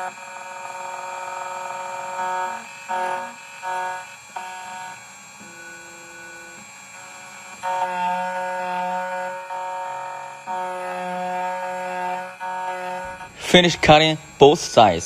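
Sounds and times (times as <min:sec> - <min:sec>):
key cutting machine whine: 0:00.0 - 0:15.0.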